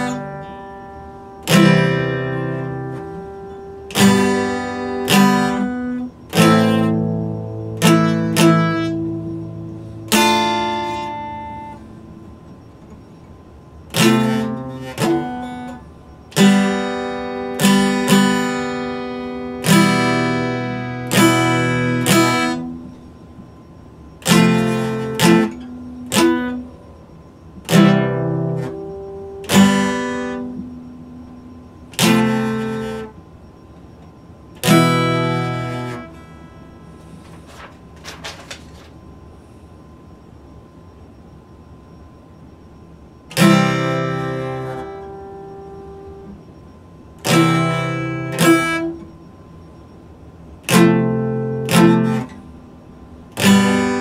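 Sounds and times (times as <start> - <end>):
acoustic guitar chords strummed: 0.0 - 38.9, 43.3 - 49.3, 50.6 - 54.0.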